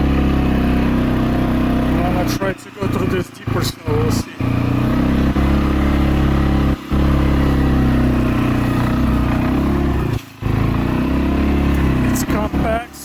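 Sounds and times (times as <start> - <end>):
atv engine running under load: 0.0 - 13.0.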